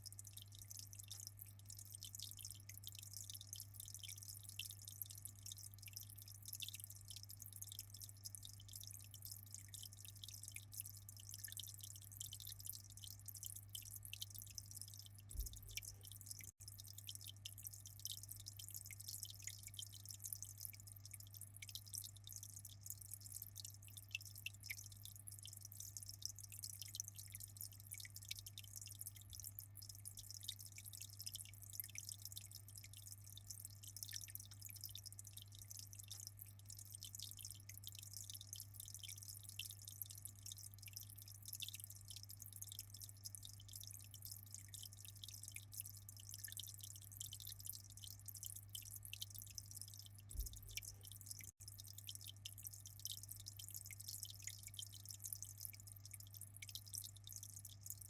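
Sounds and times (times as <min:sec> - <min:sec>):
low steady hum: 0:00.0 - 0:58.0
water trickling and dripping: 0:00.0 - 0:58.0.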